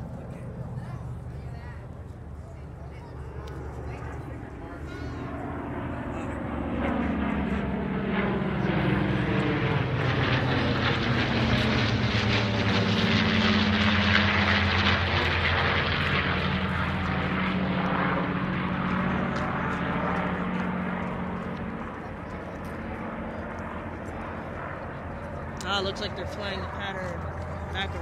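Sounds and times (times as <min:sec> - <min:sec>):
propeller planes droning overhead: 0:00.0 - 0:28.0.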